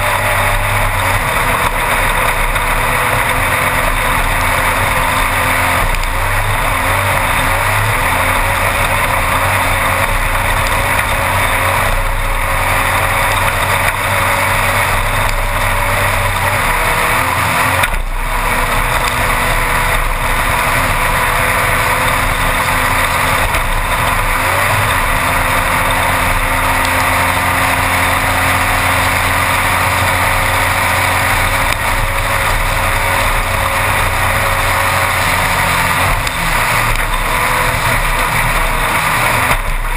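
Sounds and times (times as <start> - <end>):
race car engine running hard: 0.0 - 39.9
road and wind noise: 0.0 - 39.9.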